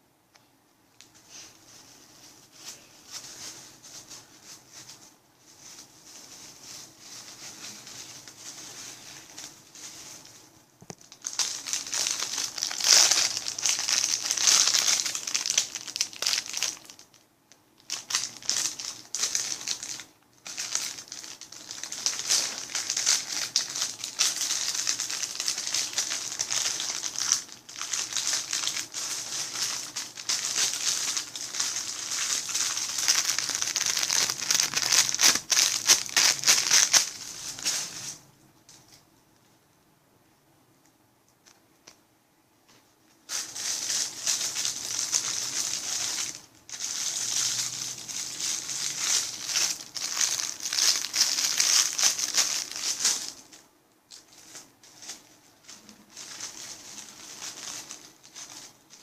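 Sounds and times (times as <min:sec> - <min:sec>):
plastic packaging crinkling: 0:01.2 - 0:38.2, 0:43.2 - 0:59.0.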